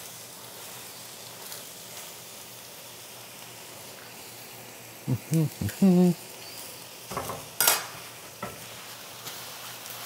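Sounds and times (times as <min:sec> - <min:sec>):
mushrooms sizzling in a pan: 0:00.0 - 0:10.0.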